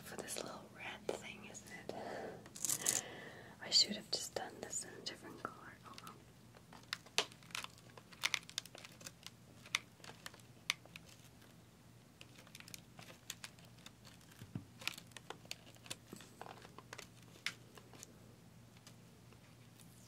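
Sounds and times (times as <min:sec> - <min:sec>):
light crinkling: 0:00.0 - 0:11.6, 0:12.2 - 0:20.0.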